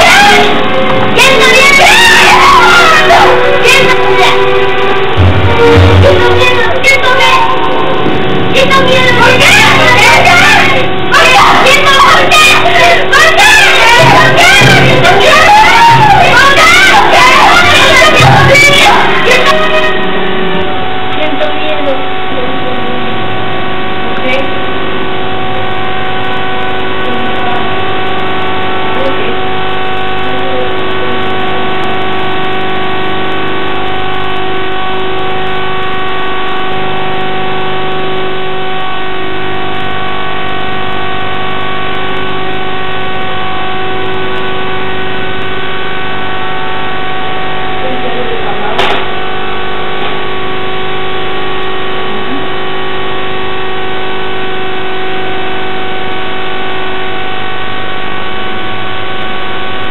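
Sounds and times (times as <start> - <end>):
loud drone with held tones: 0.0 - 59.9.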